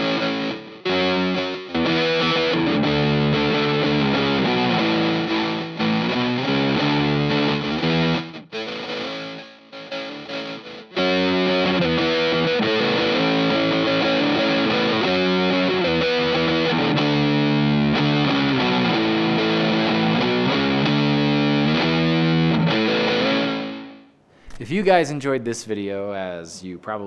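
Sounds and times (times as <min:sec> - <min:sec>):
distorted electric guitar riffing: 0:00.0 - 0:24.0.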